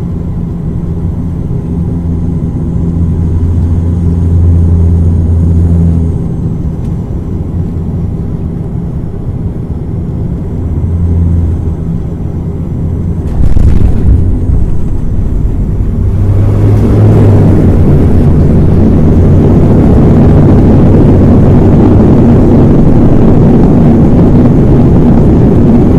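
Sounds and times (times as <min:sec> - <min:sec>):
airplane engine rumble: 0:00.0 - 0:25.9
broad engine roar: 0:00.0 - 0:25.9
faint high whine: 0:00.0 - 0:25.9.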